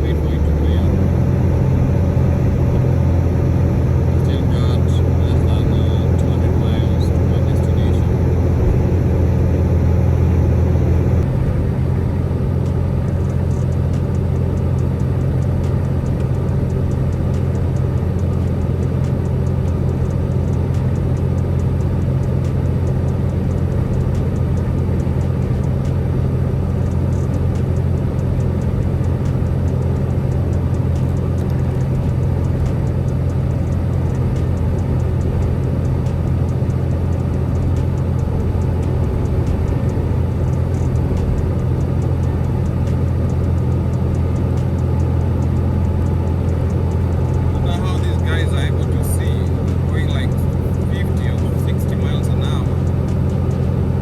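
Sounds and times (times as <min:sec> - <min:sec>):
road noise: 0:00.0 - 0:54.0
truck engine rumble: 0:00.0 - 0:54.0.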